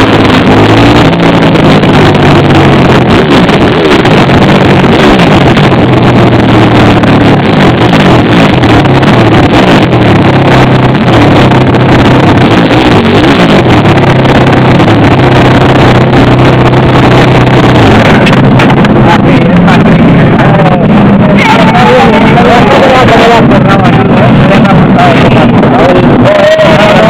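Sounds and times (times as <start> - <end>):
pit bike engine revving: 0.0 - 27.0.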